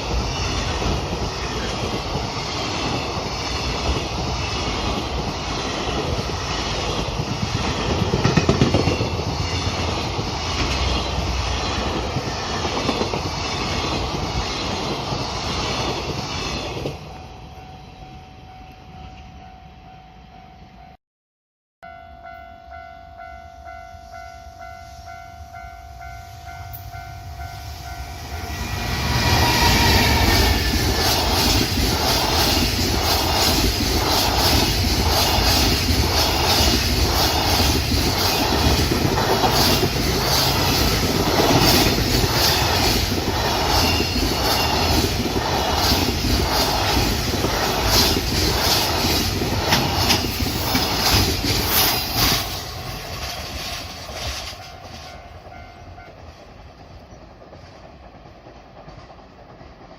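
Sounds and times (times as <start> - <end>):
train passing: 0.0 - 21.0, 21.8 - 59.9.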